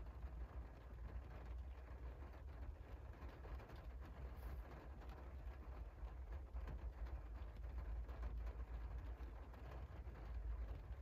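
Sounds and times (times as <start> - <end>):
low steady rumble: 0.0 - 11.0
rain drops ticking on window: 0.0 - 11.0.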